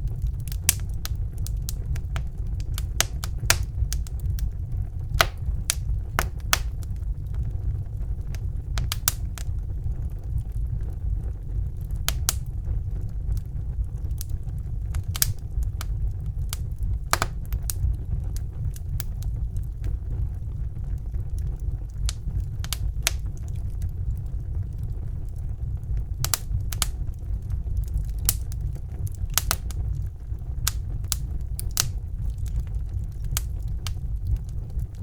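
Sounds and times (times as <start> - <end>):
fire crackling and popping: 0.0 - 35.0
low rumble of flames: 0.0 - 35.0.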